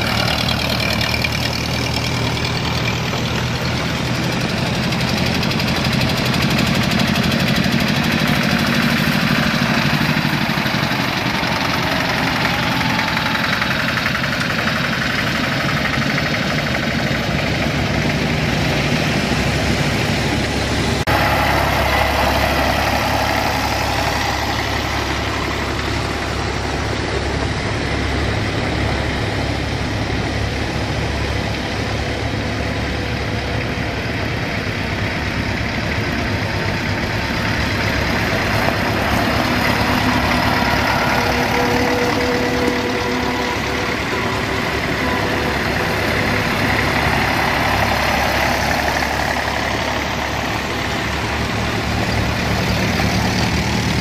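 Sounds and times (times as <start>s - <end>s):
tractor engines driving past: 0.0s - 54.0s.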